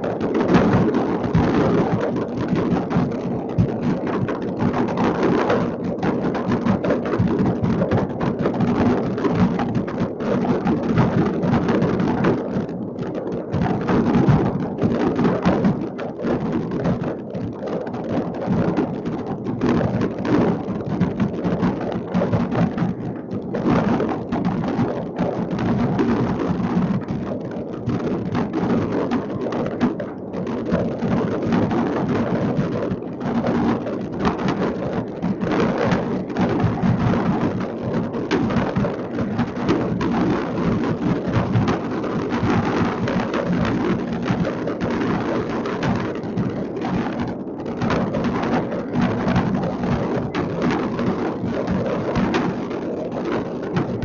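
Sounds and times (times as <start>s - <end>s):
fireworks crackling and banging: 0.0s - 50.4s.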